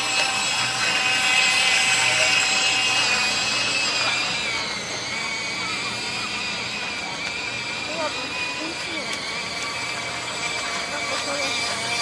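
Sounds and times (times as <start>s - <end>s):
model boat engine whining: 0.0s - 12.0s.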